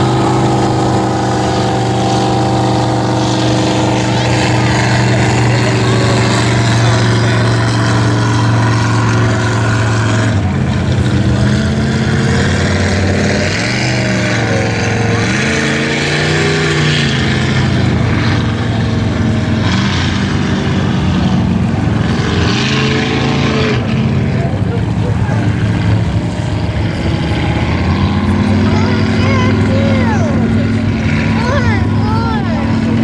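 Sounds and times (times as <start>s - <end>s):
motorboat engine drone: 0.0s - 33.0s.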